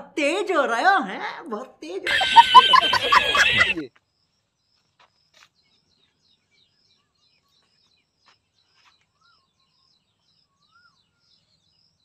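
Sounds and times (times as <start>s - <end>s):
birds chirping: 2.1s - 12.0s.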